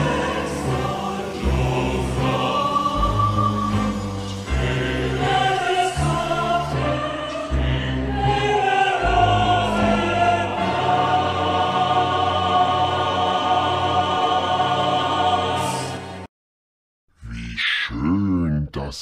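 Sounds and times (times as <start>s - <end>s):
choir singing long notes: 0.0s - 16.3s.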